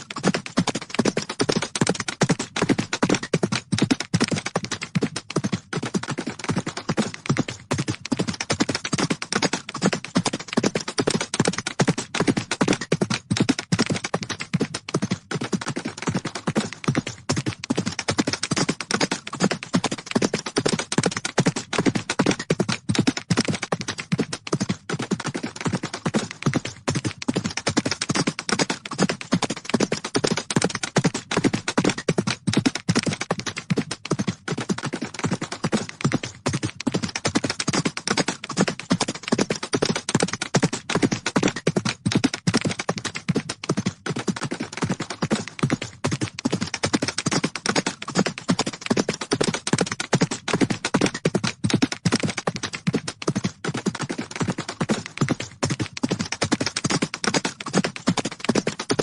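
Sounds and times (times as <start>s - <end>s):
galloping hoofbeats: 0.0s - 59.0s.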